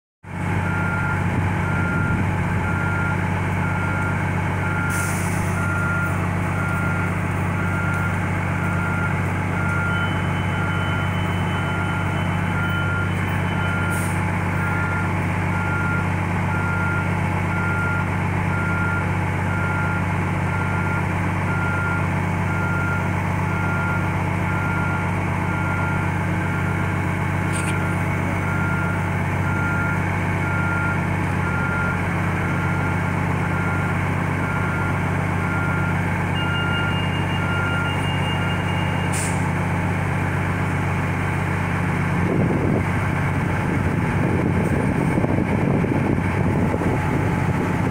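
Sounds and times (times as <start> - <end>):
bus engine idling: 0.3 - 47.9
electronic warning beep: 0.6 - 39.4.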